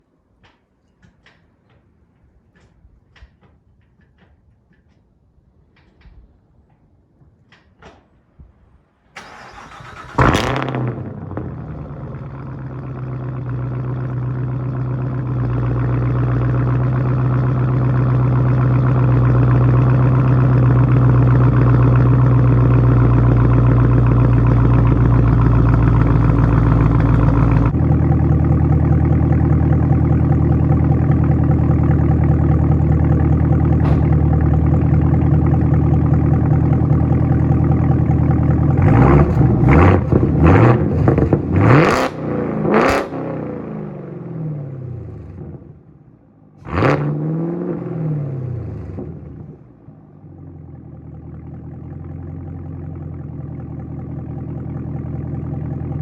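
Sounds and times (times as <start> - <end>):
car engine idling and revving: 9.2 - 56.0.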